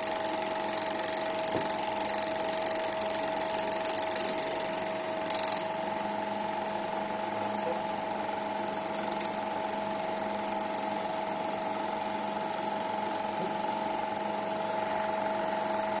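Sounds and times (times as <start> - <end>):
film projector whirring: 0.0 - 16.0.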